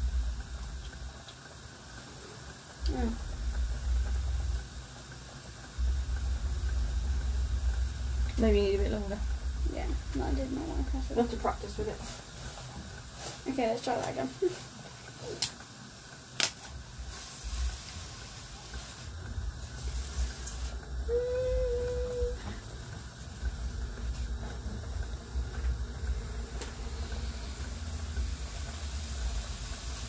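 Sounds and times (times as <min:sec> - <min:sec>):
faint steam hiss: 0:00.0 - 0:30.0
low cooking rumble: 0:00.0 - 0:30.0.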